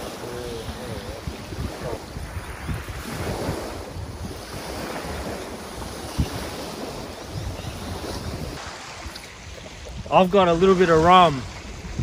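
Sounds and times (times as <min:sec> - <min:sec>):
small waves lapping: 0:00.0 - 0:12.0
wind buffeting microphone: 0:00.0 - 0:12.0.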